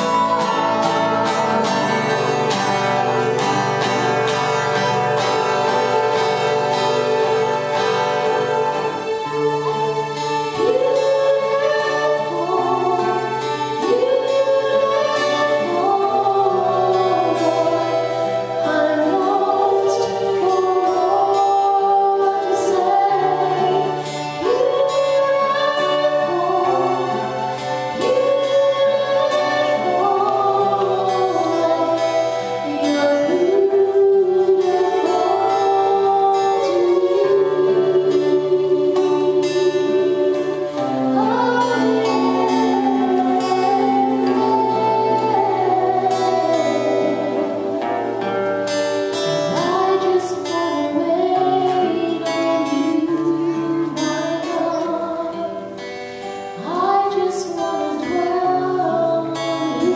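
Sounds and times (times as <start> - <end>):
strummed acoustic guitar: 0.0 - 59.9
woman singing into microphone: 0.0 - 59.9.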